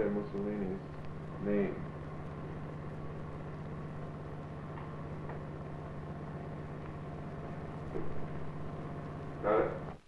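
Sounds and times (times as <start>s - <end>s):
constant hiss: 0.0s - 10.0s
low hum: 0.0s - 10.0s.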